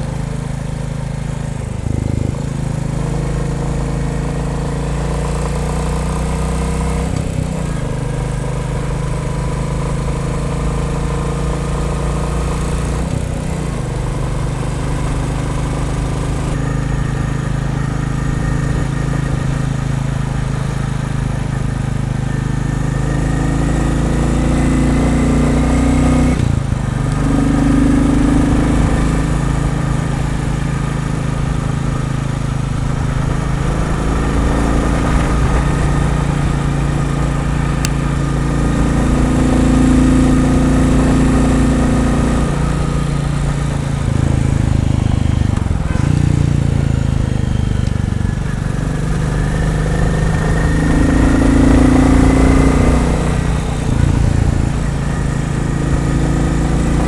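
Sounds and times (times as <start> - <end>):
motorcycle engine under load: 0.0 - 57.0.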